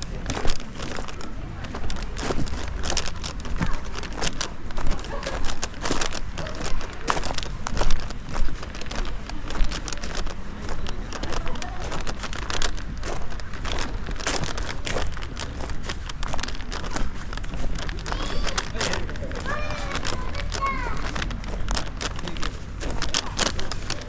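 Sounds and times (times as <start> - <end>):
clatter and rustling: 0.0 - 24.0
indistinct voices: 0.0 - 24.0.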